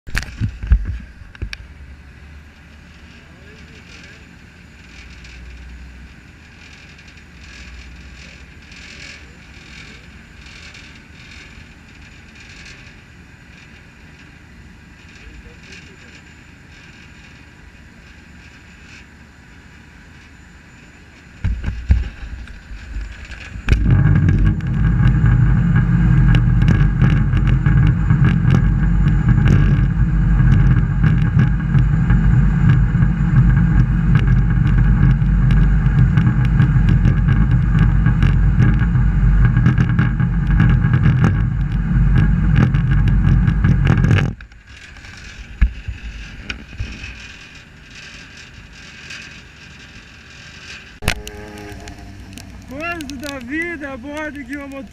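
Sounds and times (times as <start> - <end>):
engine running loud and steady: 0.1 - 44.4, 51.0 - 54.9.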